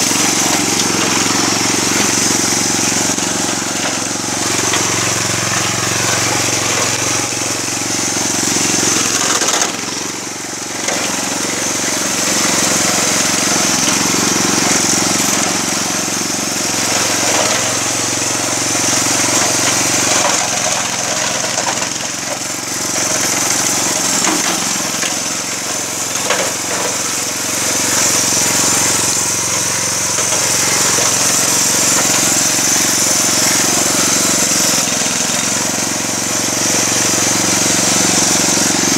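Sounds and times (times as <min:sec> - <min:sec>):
lawn mower running: 0:00.0 - 0:38.9.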